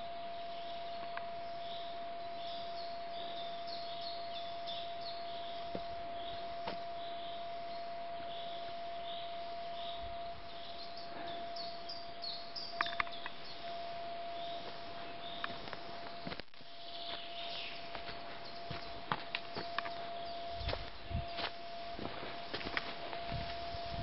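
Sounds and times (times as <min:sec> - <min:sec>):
birds chirping: 0:00.0 - 0:24.0
steady single tone: 0:00.0 - 0:24.0.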